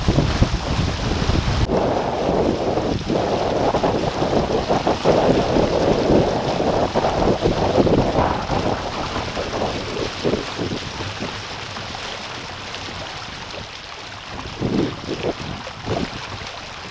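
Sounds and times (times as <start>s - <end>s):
water rushing along hulls: 0.0s - 16.9s
wind buffeting microphone: 0.0s - 16.9s.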